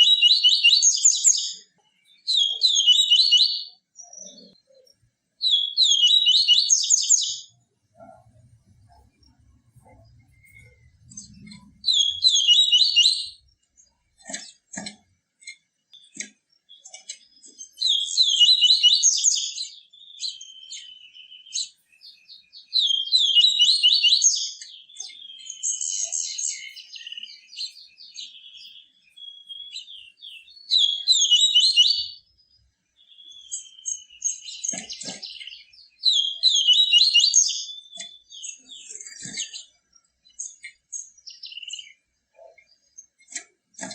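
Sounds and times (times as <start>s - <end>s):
bird singing high phrases: 0.0s - 14.7s, 15.5s - 43.8s
soft bird twittering: 0.0s - 43.9s.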